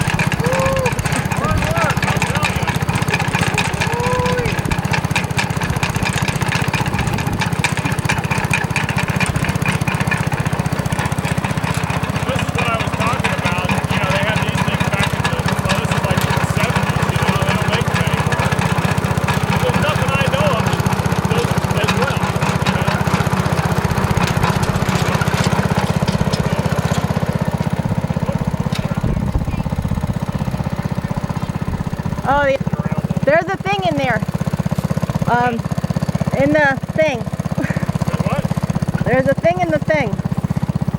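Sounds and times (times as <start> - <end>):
light rattles and clicks: 0.0 - 40.4
small tractor engine running: 0.0 - 40.9.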